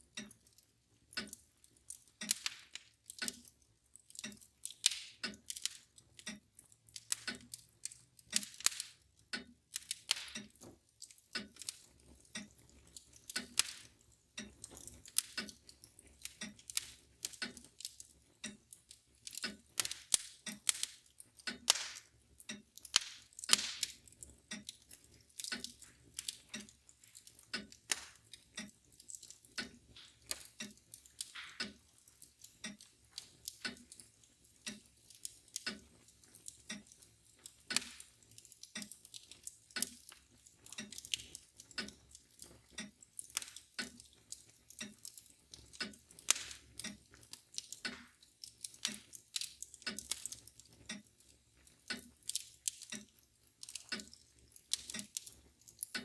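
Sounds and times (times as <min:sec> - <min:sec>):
clock ticking: 0:00.0 - 0:56.0
wood fire crackling and popping: 0:00.0 - 0:56.0.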